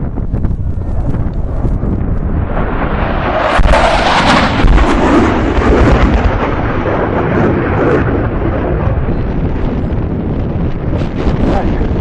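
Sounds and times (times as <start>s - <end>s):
deep explosion boom: 0.0s - 12.0s
loud rolling rumble: 0.0s - 12.0s.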